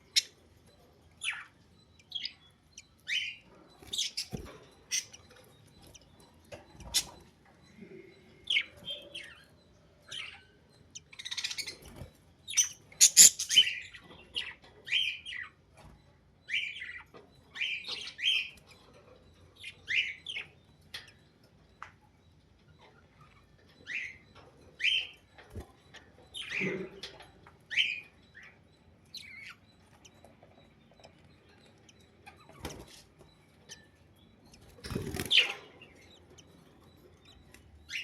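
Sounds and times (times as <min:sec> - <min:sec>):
budgies chirping: 0:00.0 - 0:38.0.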